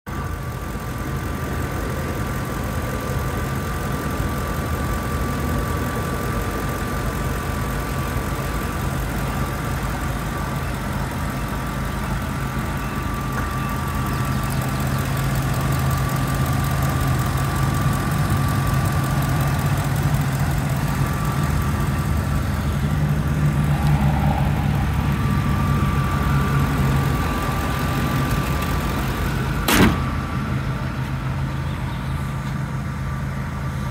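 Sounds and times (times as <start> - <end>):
truck engine idling: 0.1 - 33.9.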